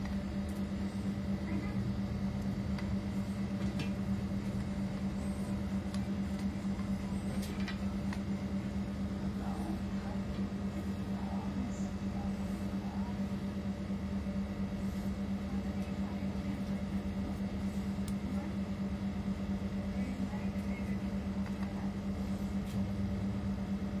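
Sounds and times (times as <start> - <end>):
machine hum with fast flutter: 0.0 - 24.0.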